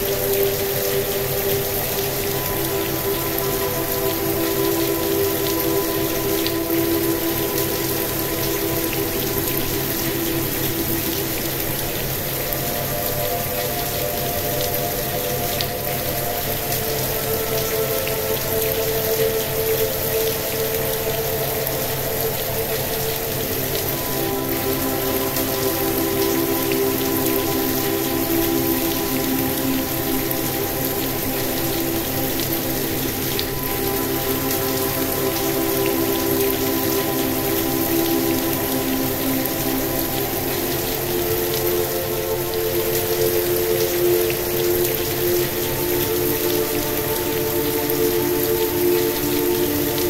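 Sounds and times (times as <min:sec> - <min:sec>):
ambient pad chords: 0:00.0 - 0:50.0
steady rain falling: 0:00.0 - 0:50.0.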